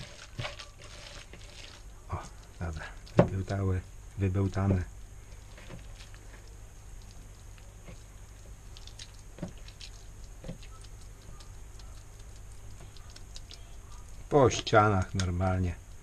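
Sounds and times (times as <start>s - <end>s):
hands squelching wet mash: 0.0s - 16.0s
low steady hum: 0.0s - 16.0s.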